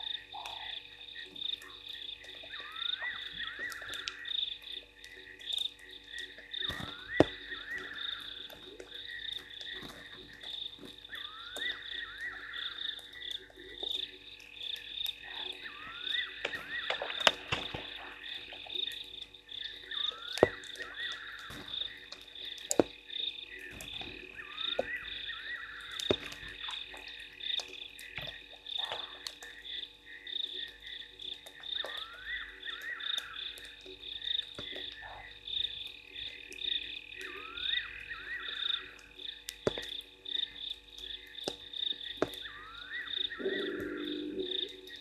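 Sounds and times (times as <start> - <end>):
frogs calling: 0.0 - 45.0.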